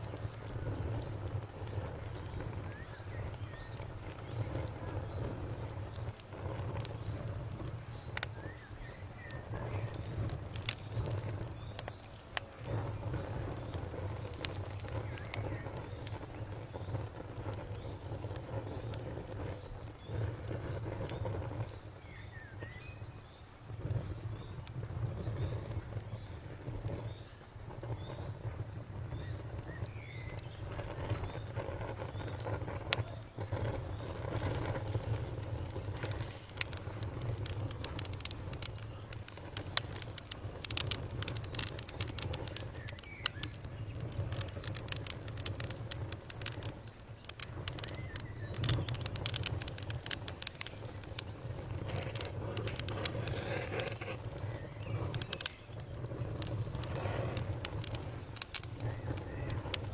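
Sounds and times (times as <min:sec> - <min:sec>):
cricket chirping: 0:00.0 - 0:59.9
wood fire crackling and popping: 0:00.0 - 0:59.9.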